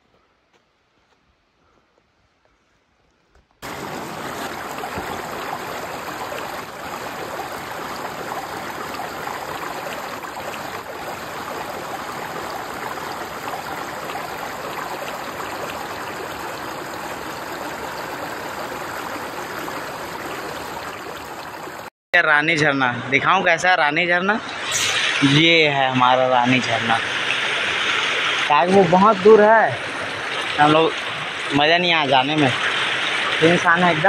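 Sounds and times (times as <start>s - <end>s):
water rushing over rocks: 3.6s - 21.9s, 24.5s - 34.0s.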